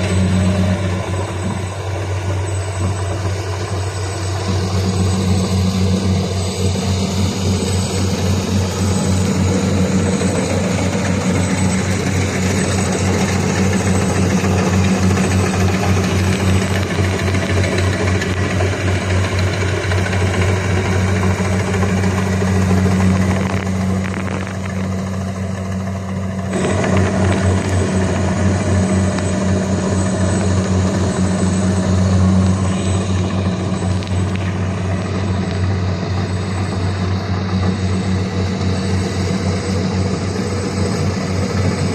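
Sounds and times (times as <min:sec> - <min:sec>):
combine harvester engine humming: 0:00.0 - 0:41.9.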